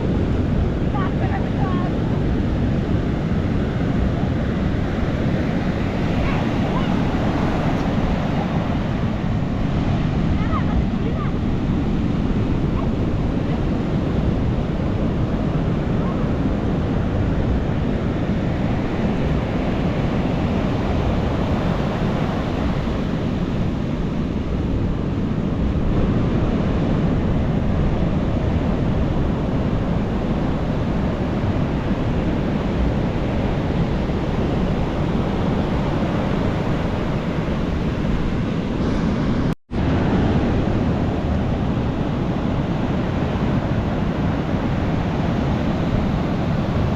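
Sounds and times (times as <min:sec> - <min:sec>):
ocean waves breaking on beach: 0:00.0 - 0:46.9.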